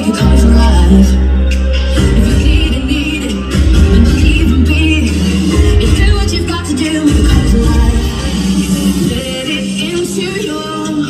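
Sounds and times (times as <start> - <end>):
bass-heavy music from car speakers: 0.0 - 11.0.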